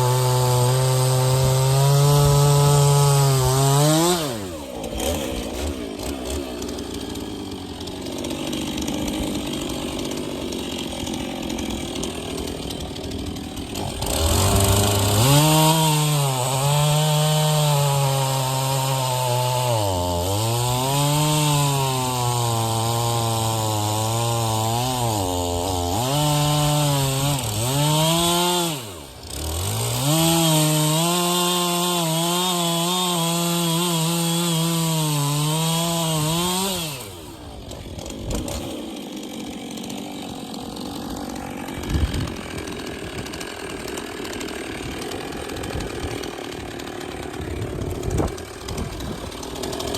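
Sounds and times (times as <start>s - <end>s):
chainsaw cutting logs: 0.0s - 49.9s.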